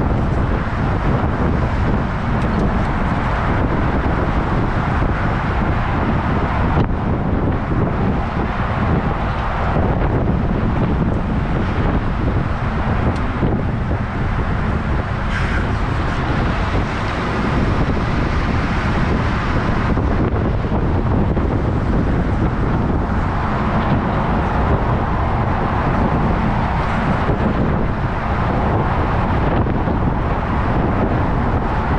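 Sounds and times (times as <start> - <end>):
truck engine and road noise: 0.0 - 31.9
wind buffeting microphone: 0.0 - 31.9.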